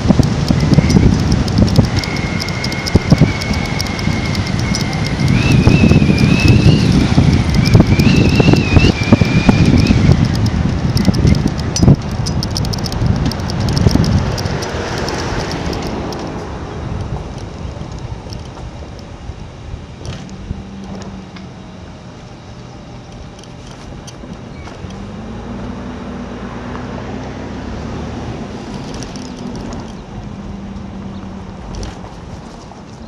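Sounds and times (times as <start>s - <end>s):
motor engine humming: 0.0s - 33.0s.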